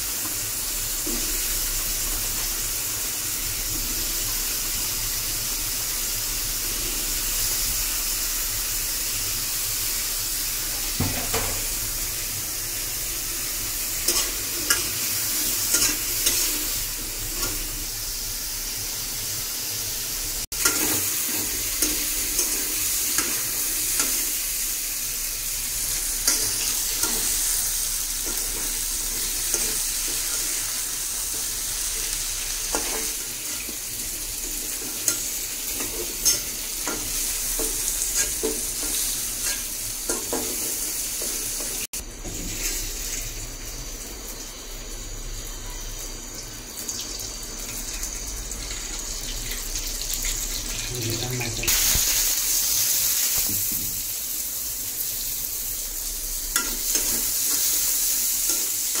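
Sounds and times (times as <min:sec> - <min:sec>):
potatoes frying in oil: 0:00.0 - 0:59.0.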